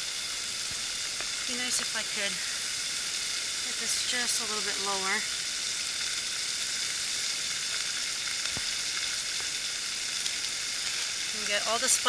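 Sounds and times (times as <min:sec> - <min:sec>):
oil sizzling in a pot: 0:00.0 - 0:12.0.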